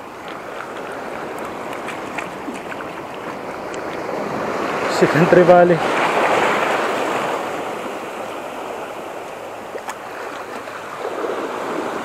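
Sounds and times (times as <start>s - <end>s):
small waves washing over rocks: 0.0s - 12.0s.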